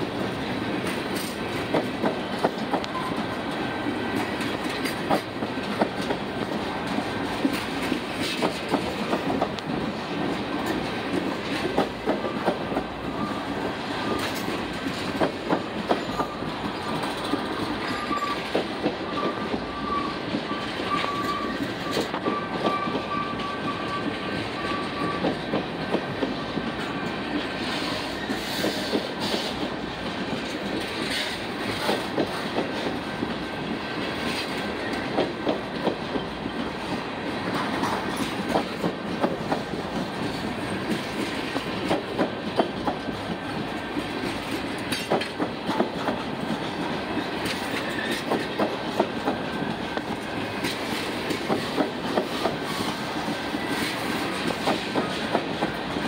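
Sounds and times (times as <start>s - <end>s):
freight train rumbling: 0.0s - 56.0s
train wheels clacking: 0.0s - 56.0s.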